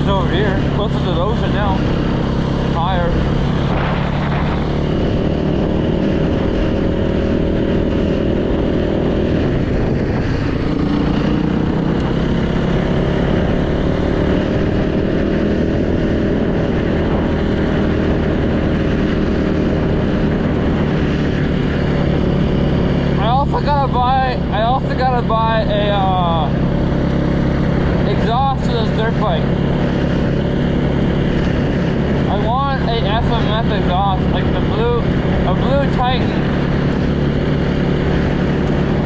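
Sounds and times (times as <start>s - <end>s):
dirt bike engine running: 0.0s - 39.0s.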